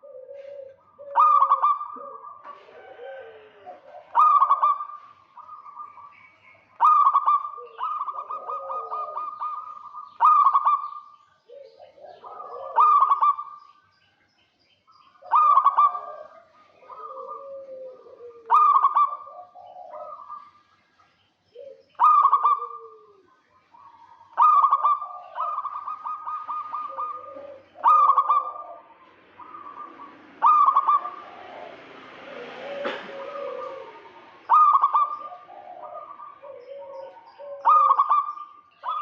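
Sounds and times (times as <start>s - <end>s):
soft dove coos: 0.0s - 6.1s, 6.8s - 13.6s, 15.2s - 20.5s, 21.5s - 39.0s
doves cooing trilled phrase: 0.0s - 13.8s, 15.1s - 20.7s, 21.5s - 39.0s.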